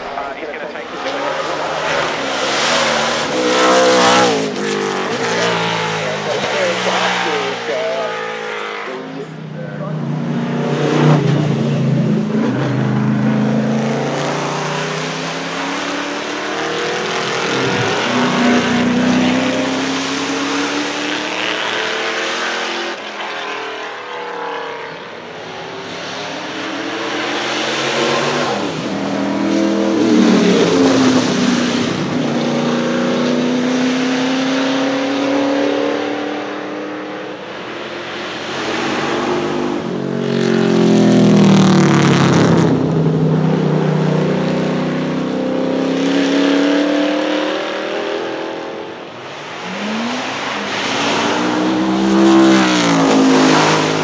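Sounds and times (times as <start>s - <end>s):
race car engine at full throttle: 0.0s - 54.0s.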